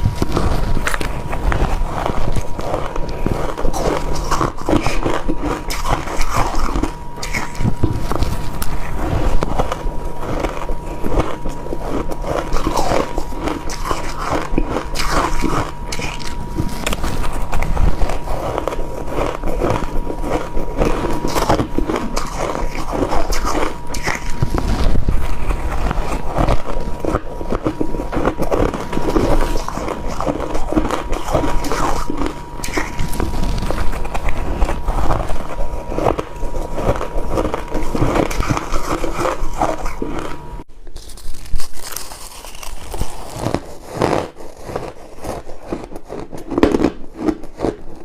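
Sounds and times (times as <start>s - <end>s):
crunching ice: 0.0s - 48.0s.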